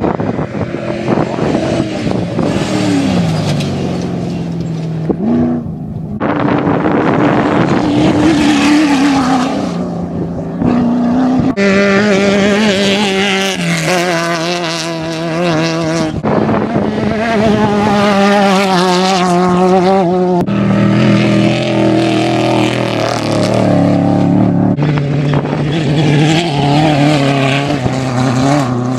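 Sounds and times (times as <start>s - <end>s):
race vehicle engines revving: 0.0s - 28.9s.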